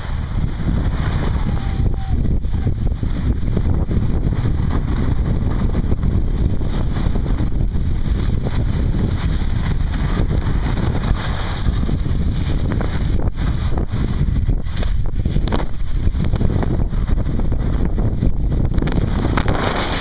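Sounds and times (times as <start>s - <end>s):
skis sliding on snow: 0.0s - 20.0s
wind rushing over microphone: 0.0s - 20.0s.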